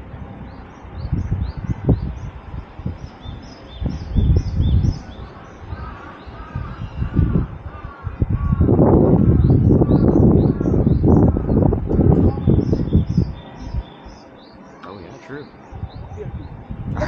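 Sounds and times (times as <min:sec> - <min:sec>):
low rumble with thumps: 0:00.0 - 0:14.2, 0:15.7 - 0:17.0
birds chirping: 0:00.2 - 0:17.0
lower arched bird call: 0:02.9 - 0:16.6.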